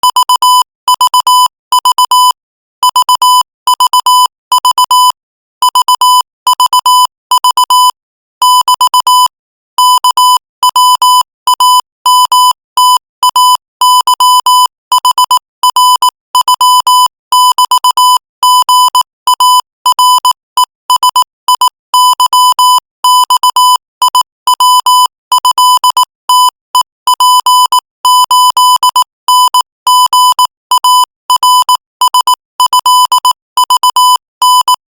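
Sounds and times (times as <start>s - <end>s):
morse code beeps: 0.0s - 34.8s.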